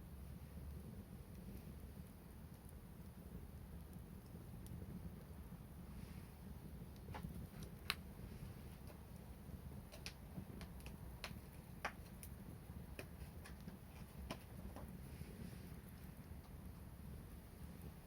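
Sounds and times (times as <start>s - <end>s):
faint low rumble: 0.0s - 18.0s
wood fire crackling: 0.0s - 18.0s.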